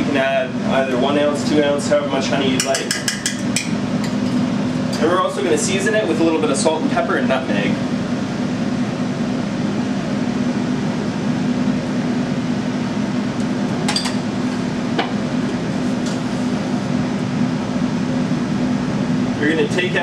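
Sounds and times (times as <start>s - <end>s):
kitchen ventilation fan hum: 0.0s - 20.0s.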